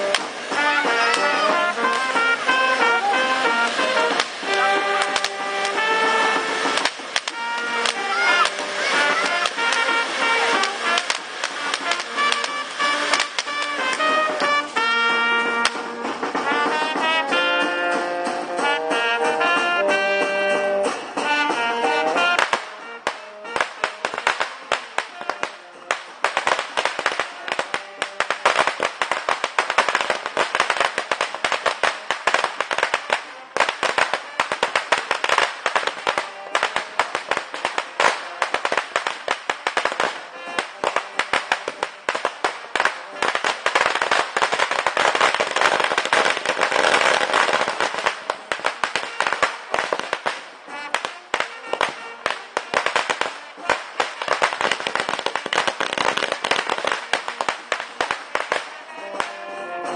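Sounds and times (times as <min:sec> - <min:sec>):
fireworks crackling and popping: 0:00.0 - 0:59.9
music playing: 0:00.0 - 0:59.9.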